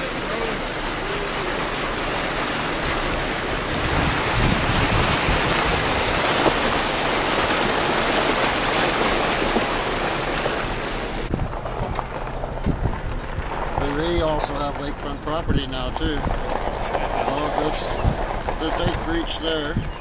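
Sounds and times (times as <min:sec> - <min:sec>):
wind buffeting microphone: 0:01.6 - 0:20.0.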